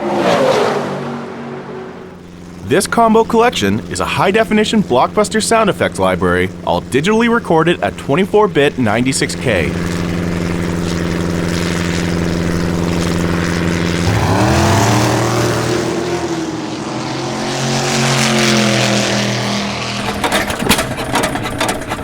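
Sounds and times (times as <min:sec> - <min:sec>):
passing engine: 0:00.0 - 0:22.0
steady droning engine: 0:00.0 - 0:22.0.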